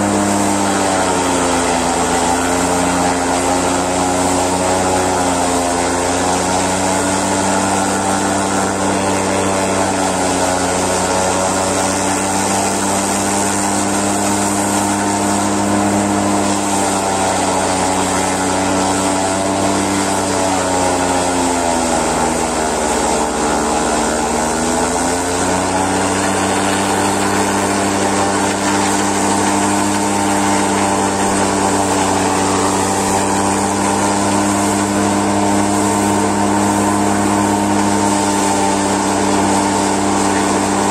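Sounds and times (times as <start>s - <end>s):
tractor engine and chopper hum: 0.0s - 40.9s.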